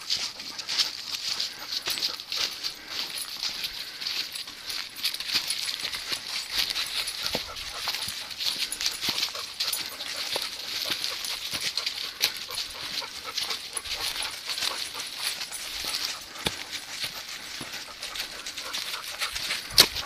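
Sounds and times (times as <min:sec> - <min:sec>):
footsteps crunching dry leaves: 0:00.0 - 0:20.0.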